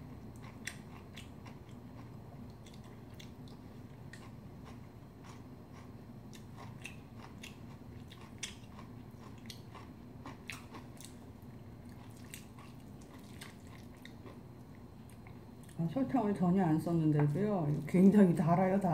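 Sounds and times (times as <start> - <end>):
chewing food: 0.2 - 15.8.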